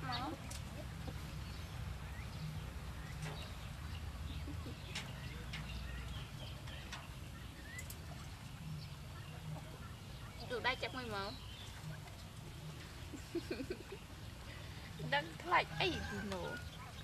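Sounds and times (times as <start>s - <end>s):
low steady rumble: 0.0s - 17.0s
quails chirping: 0.0s - 17.0s.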